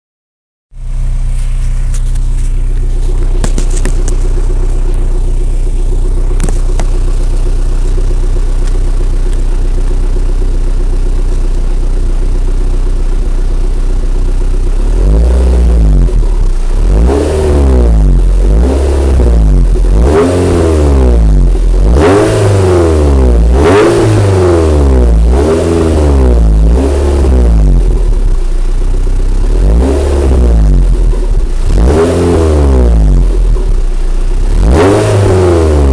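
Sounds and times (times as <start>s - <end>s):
car engine idling and revving: 0.7s - 35.9s.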